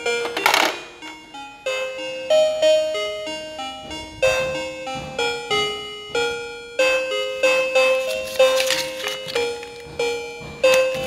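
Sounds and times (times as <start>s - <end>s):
electronic vending machine tune: 0.0s - 11.0s.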